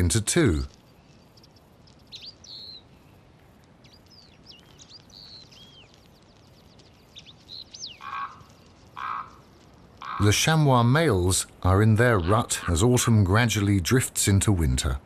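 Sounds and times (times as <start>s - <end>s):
small birds chirping: 0.0s - 13.8s
faint background hiss: 0.0s - 15.0s.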